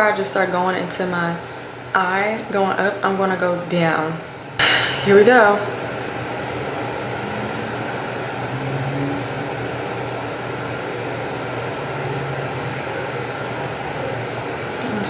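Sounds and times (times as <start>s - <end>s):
mechanical whirring hum: 0.0s - 15.0s.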